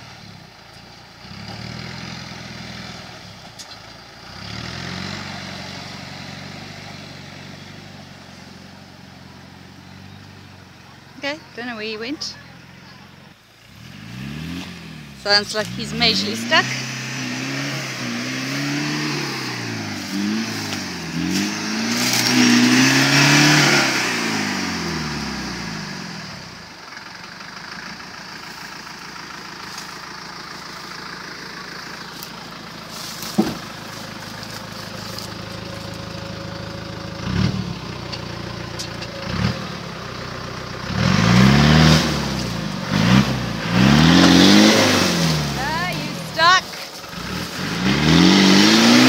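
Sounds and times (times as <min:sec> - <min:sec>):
engine revving: 0:01.2 - 0:03.4, 0:04.2 - 0:08.0, 0:13.7 - 0:26.8, 0:27.6 - 0:49.0.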